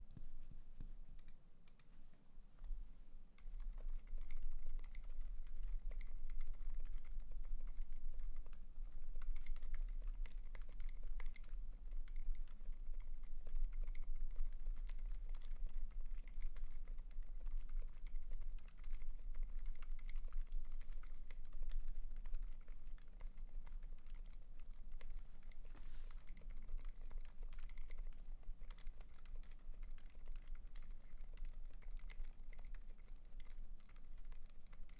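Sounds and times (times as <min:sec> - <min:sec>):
muted keyboard keystrokes: 0:03.4 - 0:34.9.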